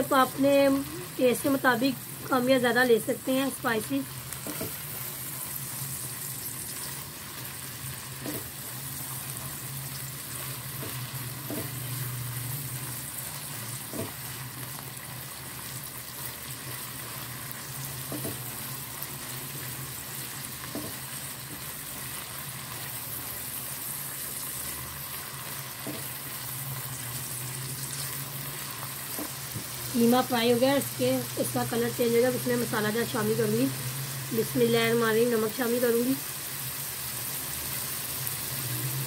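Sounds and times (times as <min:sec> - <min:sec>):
meat sizzling in oil: 0:00.0 - 0:39.0.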